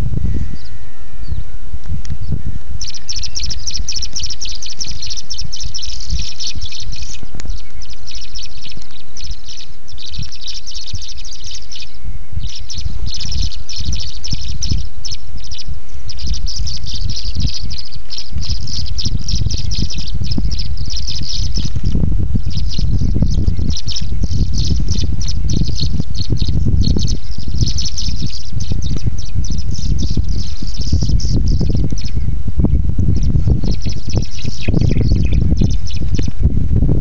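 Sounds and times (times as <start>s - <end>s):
steady low rumble: 0.0s - 37.0s
swallows twittering: 0.0s - 37.0s.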